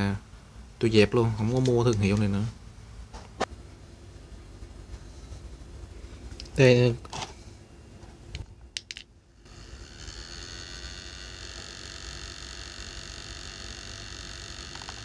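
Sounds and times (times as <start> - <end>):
small cooling fan whirring: 0.0 - 15.0.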